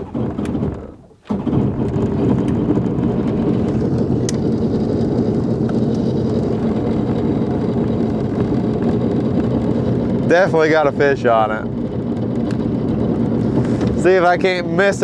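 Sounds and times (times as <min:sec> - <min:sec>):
jet boat engine running: 0:00.0 - 0:15.0.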